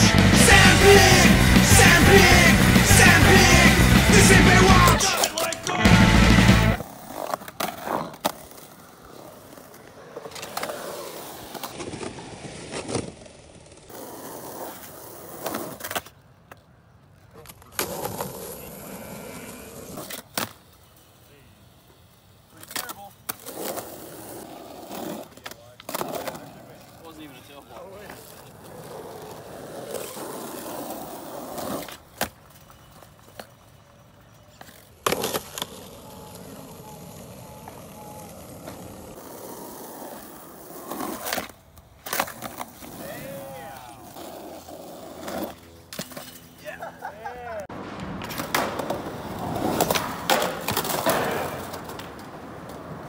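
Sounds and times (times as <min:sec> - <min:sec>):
skateboard wheels rolling on concrete: 0:00.0 - 0:53.0.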